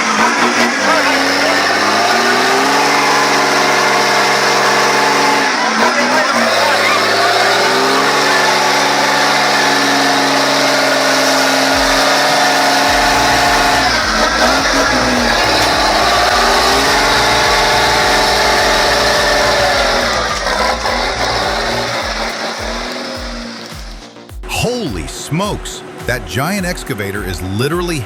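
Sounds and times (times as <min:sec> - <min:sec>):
vehicle engine revving: 0:00.0 - 0:24.2.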